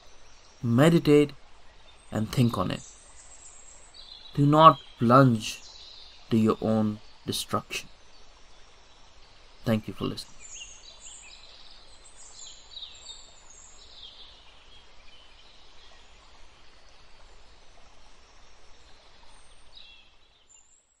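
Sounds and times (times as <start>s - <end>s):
small birds chirping: 0.0s - 20.9s
steady low hiss: 0.0s - 21.0s.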